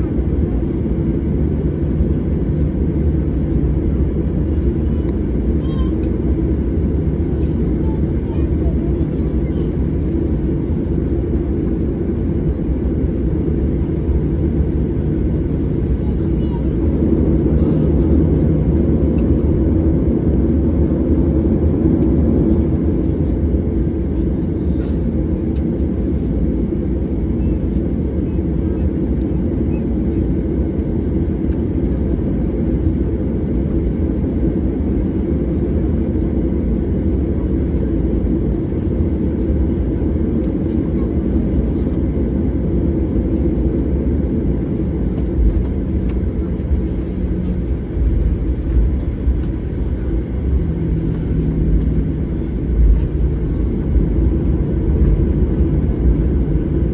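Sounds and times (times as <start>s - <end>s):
airliner cabin rumble and hum: 0.0s - 56.9s.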